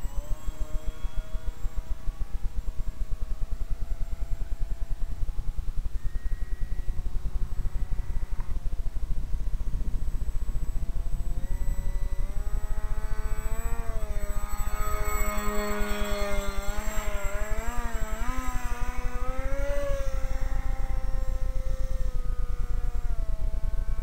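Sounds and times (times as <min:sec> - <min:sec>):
fast low pulsing: 0:00.0 - 0:24.0
model plane motor whine: 0:00.0 - 0:24.0.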